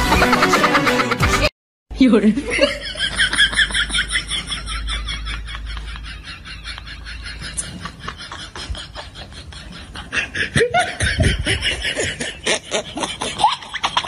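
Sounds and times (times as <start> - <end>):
laughter in choppy bursts: 0.0 - 1.5, 2.5 - 14.0.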